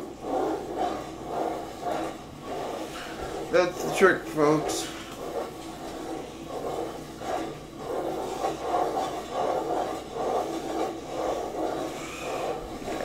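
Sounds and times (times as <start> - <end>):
wooden spoon stirring in pot: 0.0 - 13.0.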